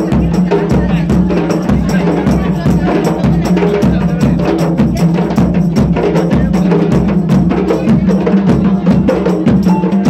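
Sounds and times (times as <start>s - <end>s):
fast busy percussion: 0.0s - 10.0s.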